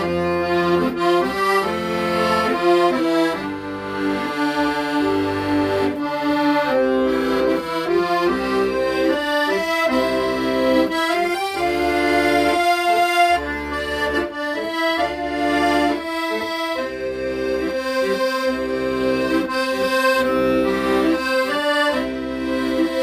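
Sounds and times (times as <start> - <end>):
accordion playing: 0.0 - 23.0.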